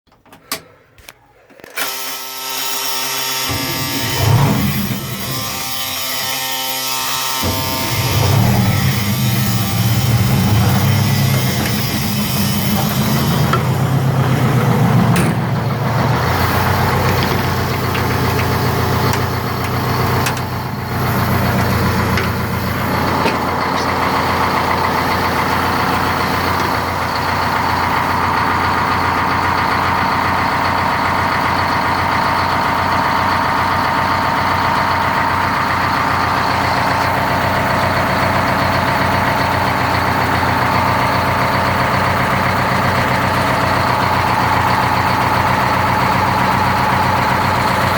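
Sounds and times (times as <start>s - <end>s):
diesel engine idling: 3.3s - 47.9s.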